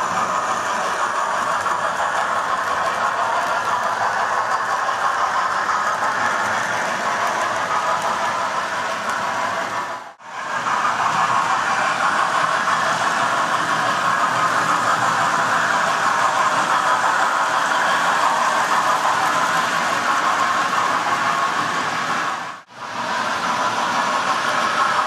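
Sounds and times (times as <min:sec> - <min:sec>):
model trains rattling on rails: 0:00.0 - 0:25.0.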